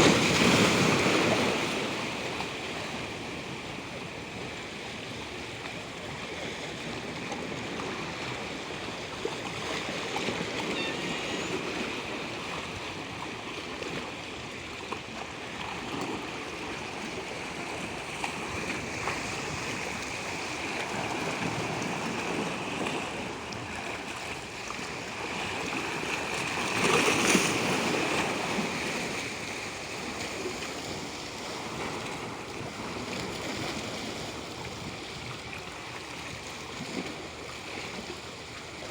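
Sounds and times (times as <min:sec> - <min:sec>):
water rushing and splashing: 0:05.2 - 0:38.9.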